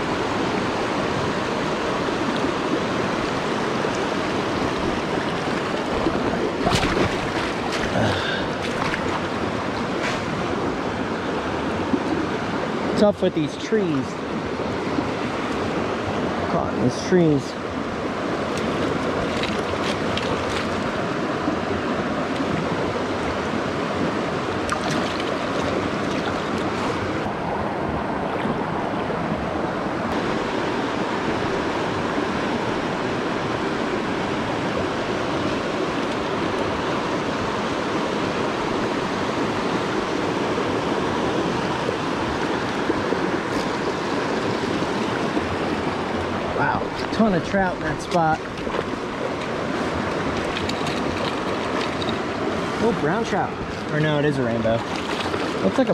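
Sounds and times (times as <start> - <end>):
river water rushing through rapids: 0.0 - 55.9.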